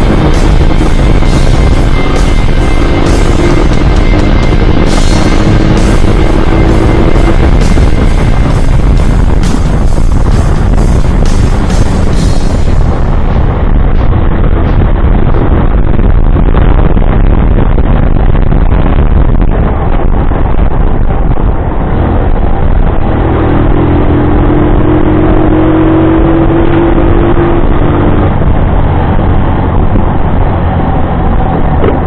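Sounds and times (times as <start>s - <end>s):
motorcycle engine rumble: 0.0s - 32.0s.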